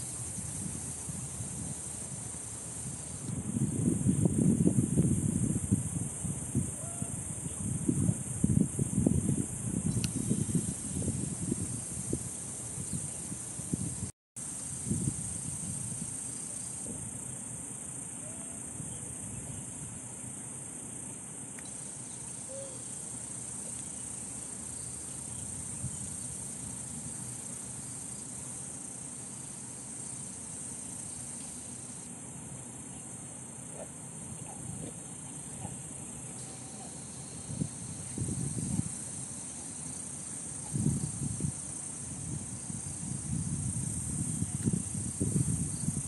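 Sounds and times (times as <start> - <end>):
insect chorus drone: 0.0 - 46.0.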